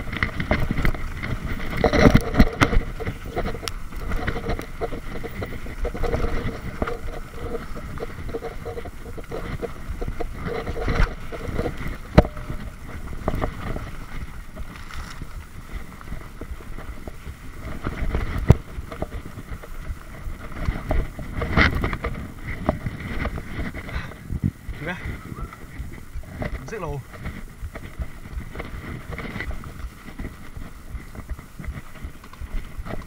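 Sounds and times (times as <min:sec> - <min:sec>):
bike rattling over rough trail: 0:00.0 - 0:33.0
wind buffeting microphone: 0:00.0 - 0:33.0.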